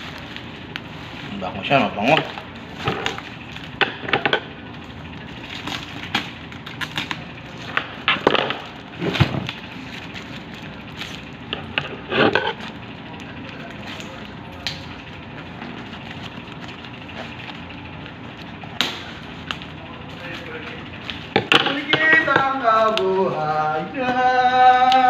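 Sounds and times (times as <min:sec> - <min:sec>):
packaging crackling and rustling: 0:00.0 - 0:23.6.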